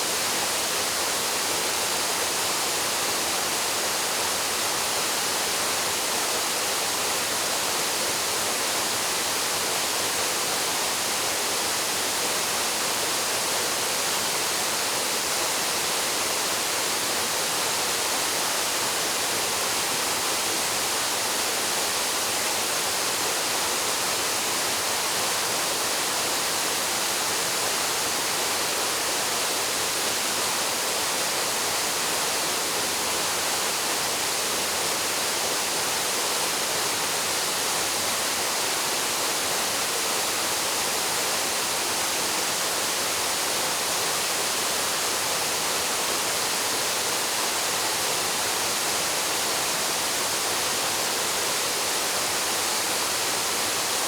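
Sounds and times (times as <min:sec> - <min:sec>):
waterfall hiss: 0:00.0 - 0:54.0.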